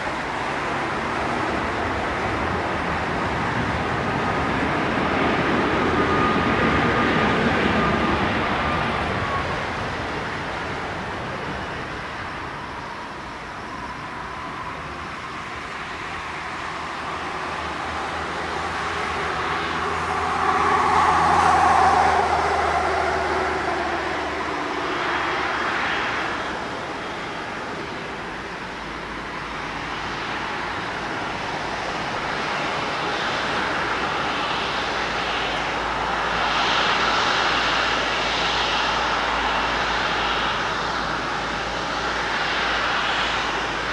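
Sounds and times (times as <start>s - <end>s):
high engine whine: 0.0s - 43.9s
jet engines running: 0.0s - 43.9s.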